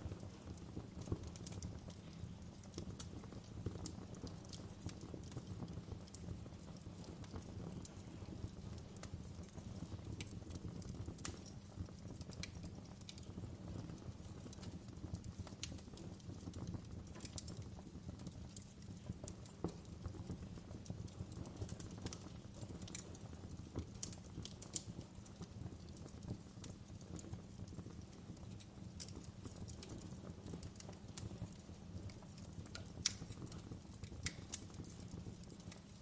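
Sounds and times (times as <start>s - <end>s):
fire crackling: 0.0s - 36.0s.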